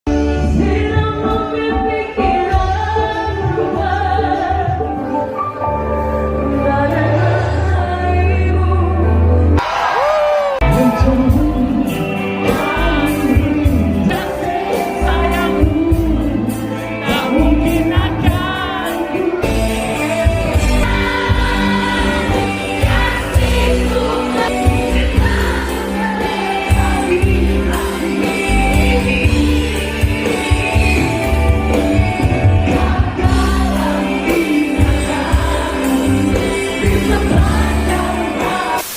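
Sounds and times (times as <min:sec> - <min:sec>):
live band music with singing: 0:00.0 - 0:38.9.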